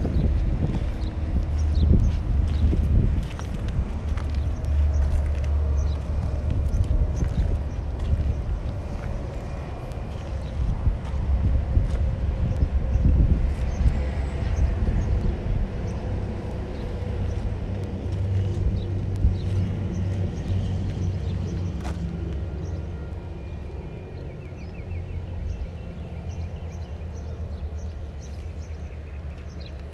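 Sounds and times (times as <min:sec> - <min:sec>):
low outdoor rumble: 0:00.0 - 0:29.9.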